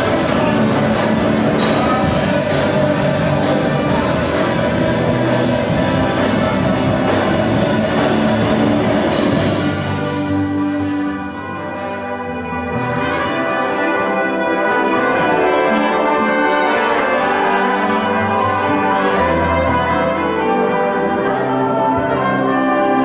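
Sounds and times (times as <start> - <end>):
big band horns playing held notes: 0.0 - 23.0.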